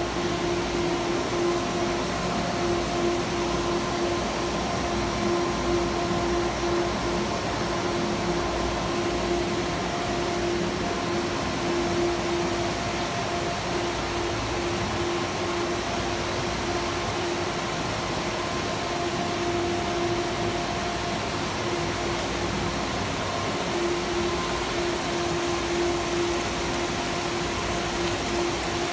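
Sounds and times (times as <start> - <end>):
constant hum: 0.0 - 28.9
water pump running: 0.0 - 28.9.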